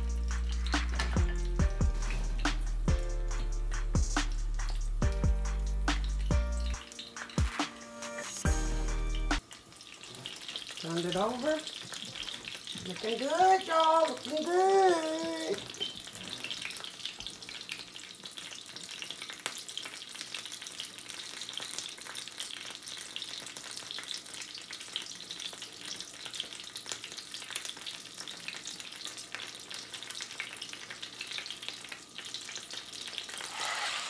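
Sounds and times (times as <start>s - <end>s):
taco sizzling in hot fat: 0.0s - 34.0s.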